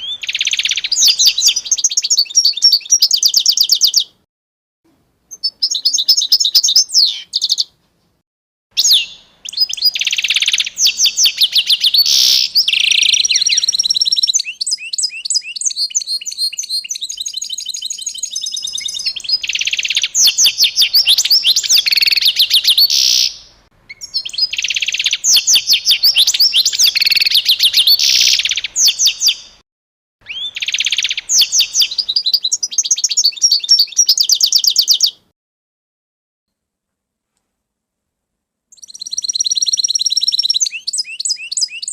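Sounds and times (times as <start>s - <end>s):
songbird trilling: 0.0s - 4.2s, 5.3s - 7.7s, 8.8s - 29.6s, 30.2s - 35.2s, 38.7s - 41.9s.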